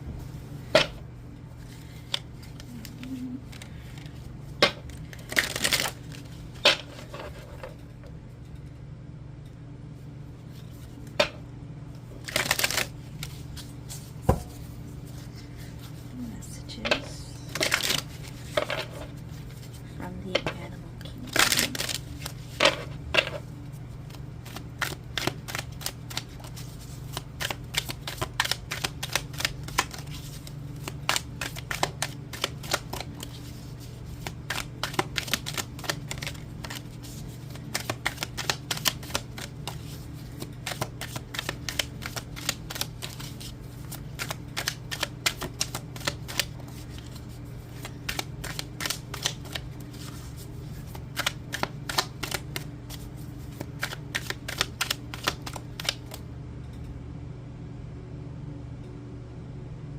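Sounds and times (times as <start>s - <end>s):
low steady hum: 0.0s - 59.9s
cards being shuffled: 1.6s - 7.9s, 12.2s - 56.2s.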